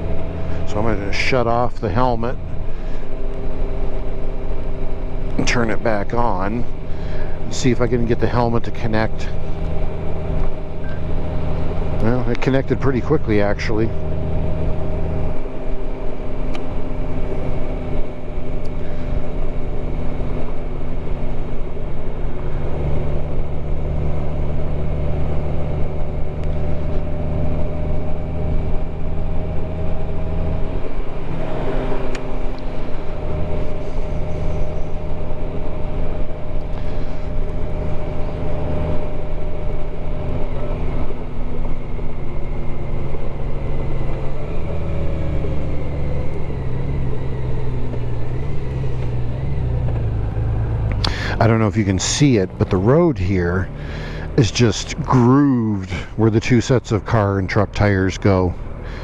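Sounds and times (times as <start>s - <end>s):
motorcycle engine running: 0.0s - 59.0s
road rumble: 0.0s - 59.0s.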